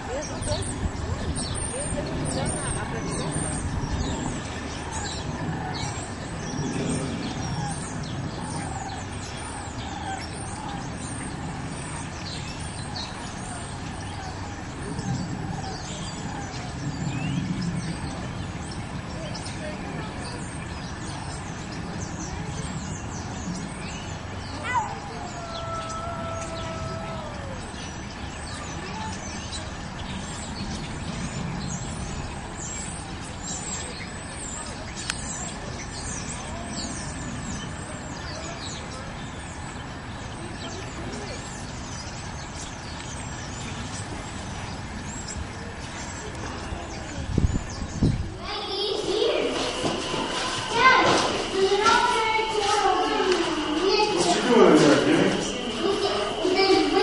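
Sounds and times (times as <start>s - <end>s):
low outdoor rumble: 0.0s - 57.0s
small birds chirping: 0.0s - 57.0s.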